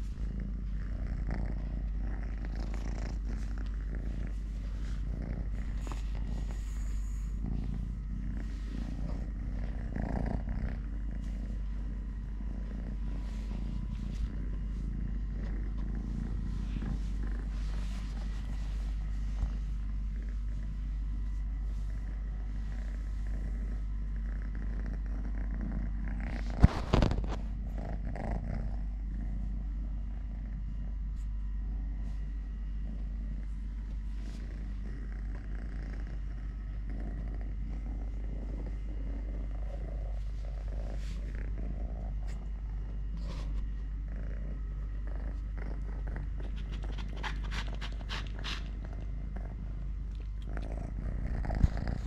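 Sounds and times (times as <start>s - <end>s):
kitten purring: 0.0s - 52.0s.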